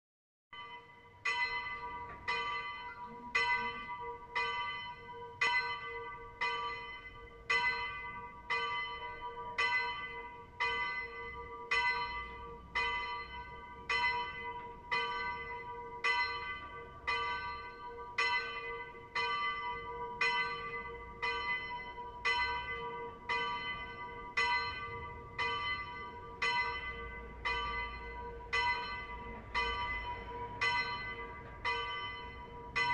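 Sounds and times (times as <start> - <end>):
church bell tolling: 0.6 - 32.9.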